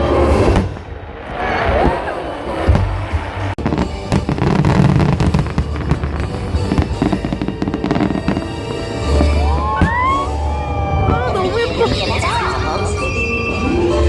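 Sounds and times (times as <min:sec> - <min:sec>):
fireworks bursting and crackling: 0:00.1 - 0:13.2
music playing: 0:02.7 - 0:14.0.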